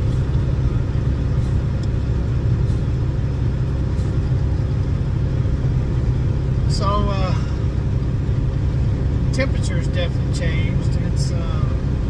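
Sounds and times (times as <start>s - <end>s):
road noise: 0.0s - 12.0s
truck engine drone: 0.0s - 12.0s.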